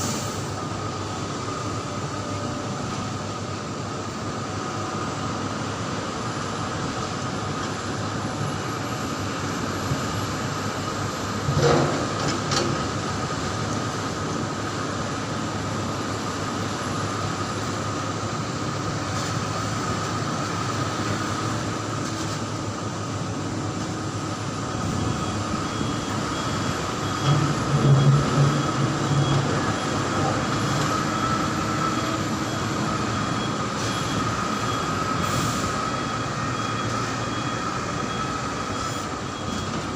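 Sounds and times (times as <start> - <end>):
dump truck engine rumble: 0.0 - 39.9.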